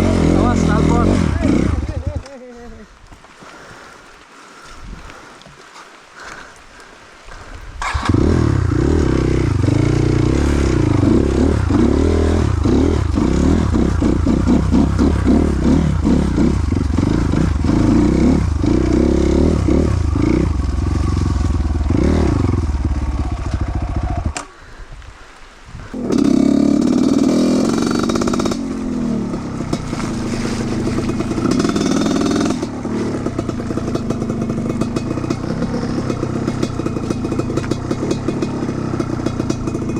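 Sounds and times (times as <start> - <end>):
motorcycle engine revving: 0.0 - 2.3, 7.8 - 24.5, 26.0 - 39.9.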